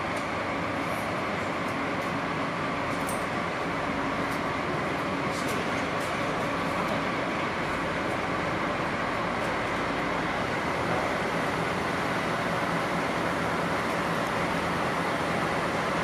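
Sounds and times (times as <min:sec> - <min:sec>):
diesel locomotive engines idling: 0:00.0 - 0:16.0.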